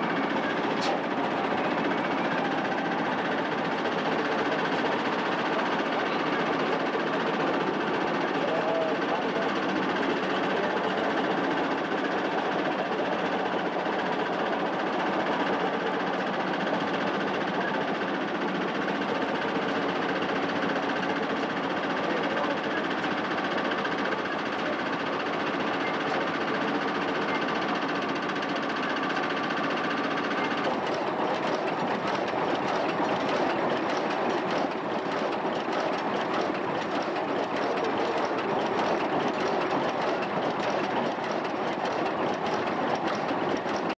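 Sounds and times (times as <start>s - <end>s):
stationary engine clattering: 0.0s - 44.0s.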